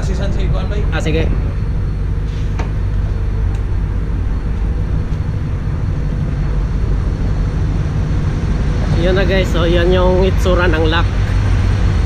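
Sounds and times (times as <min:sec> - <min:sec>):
ship engine rumble: 0:00.0 - 0:12.0
wind noise on microphone: 0:00.0 - 0:12.0.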